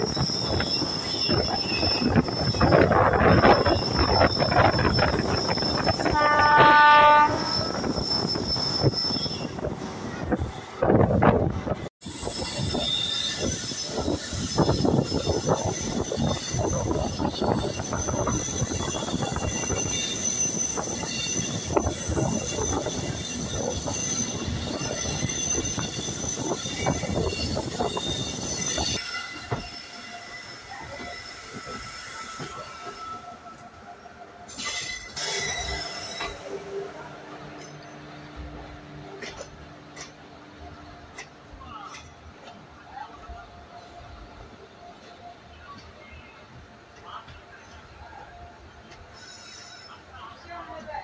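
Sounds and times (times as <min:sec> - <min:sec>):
high steady wheel squeal: 0:00.0 - 0:10.7, 0:12.1 - 0:42.2, 0:48.1 - 0:50.6
train wheels rattling over track: 0:00.0 - 0:33.8, 0:34.4 - 0:43.1.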